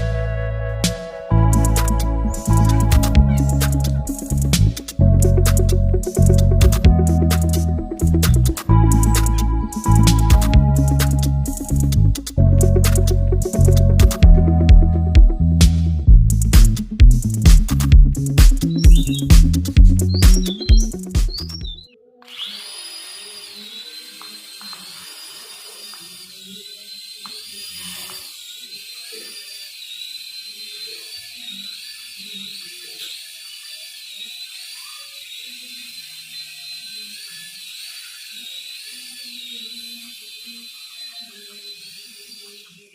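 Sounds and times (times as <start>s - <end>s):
small electric motor whining: 0.0s - 13.7s, 20.0s - 42.9s.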